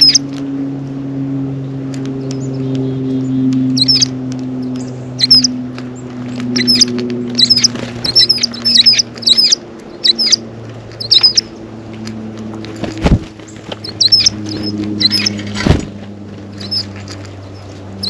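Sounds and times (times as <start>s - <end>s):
songbirds chirping: 0.0s - 18.0s
steady low hum: 0.0s - 18.0s.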